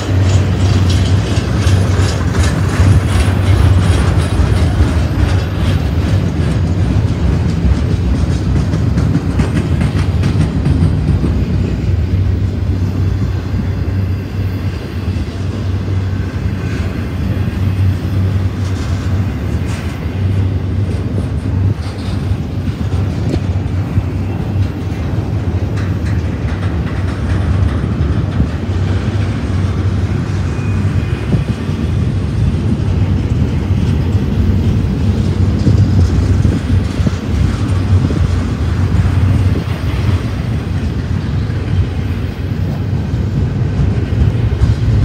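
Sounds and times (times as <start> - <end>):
train wheels rumbling on rail: 0.0 - 45.0
wheels clicking over rail joints: 0.0 - 45.0.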